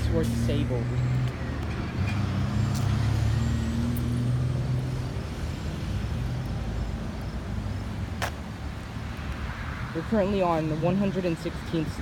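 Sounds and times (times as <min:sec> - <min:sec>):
vehicle engine drone: 0:00.0 - 0:11.8
traffic noise: 0:00.0 - 0:12.0.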